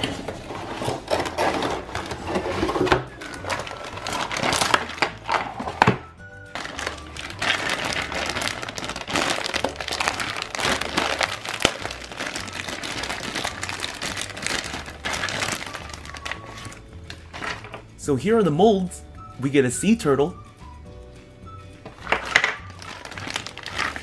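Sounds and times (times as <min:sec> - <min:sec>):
plastic bag crinkling: 0:00.0 - 0:17.9, 0:22.0 - 0:24.0.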